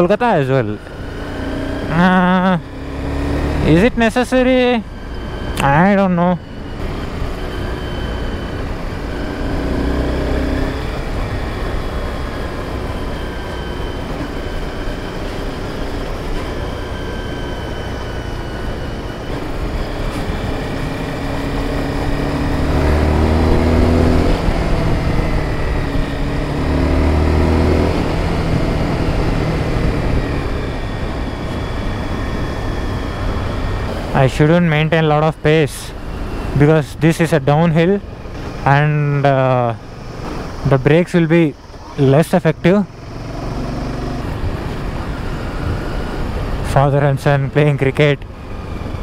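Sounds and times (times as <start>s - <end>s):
motorcycle engine: 0.0s - 49.0s.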